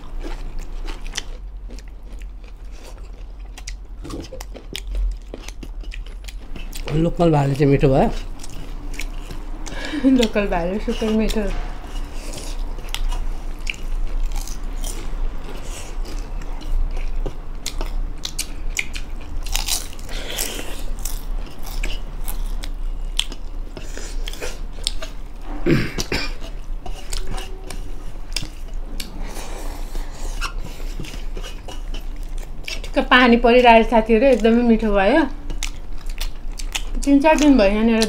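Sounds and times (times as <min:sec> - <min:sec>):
person chewing food: 0:00.0 - 0:33.0, 0:35.3 - 0:38.0.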